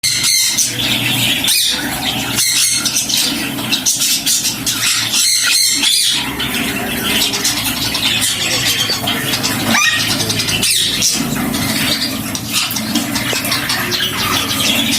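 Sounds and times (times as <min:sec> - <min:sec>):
budgerigars chattering and squawking: 0:00.0 - 0:14.9.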